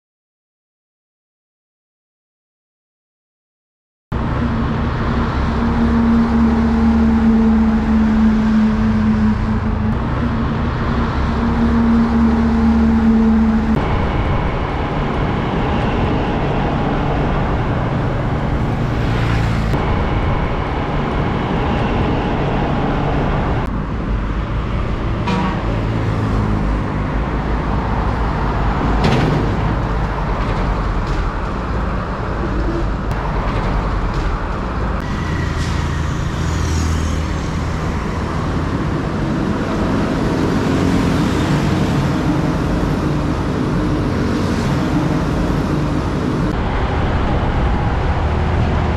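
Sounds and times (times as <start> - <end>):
diesel trucks driving past: 4.2 - 48.9.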